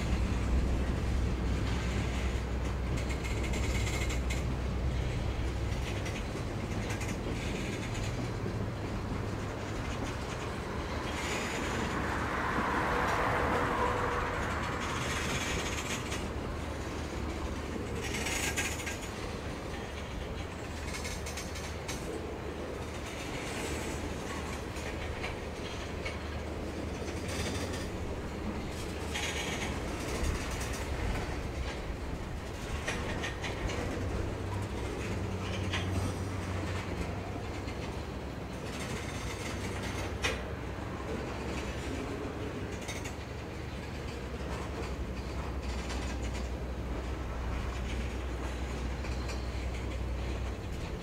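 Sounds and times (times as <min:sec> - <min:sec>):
train wheels rumbling over rails: 0:00.0 - 0:51.0.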